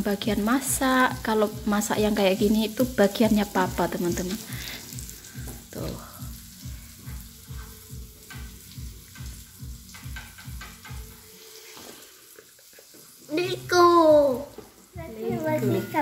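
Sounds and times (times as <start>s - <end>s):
steaks sizzling on a grill: 0.0s - 16.0s.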